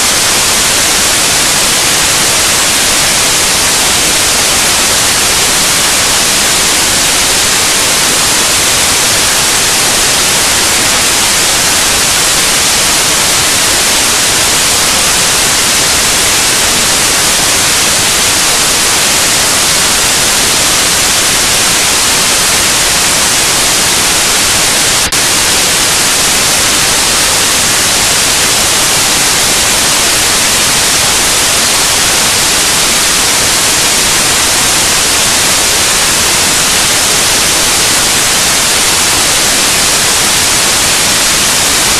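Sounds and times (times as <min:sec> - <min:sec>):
static hiss: 0:00.0 - 0:41.9.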